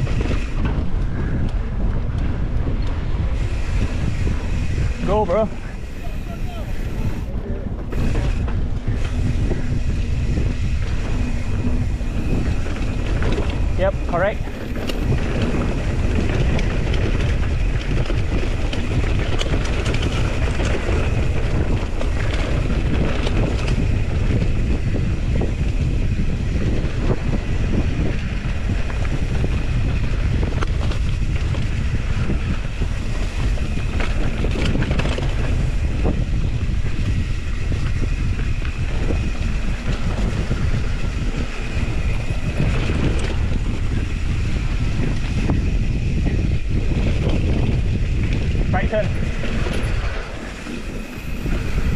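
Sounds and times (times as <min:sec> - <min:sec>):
bike rattles and clicks: 0:00.0 - 0:51.9
bike tyre noise on dirt: 0:00.0 - 0:51.9
wind buffeting microphone: 0:00.0 - 0:51.9.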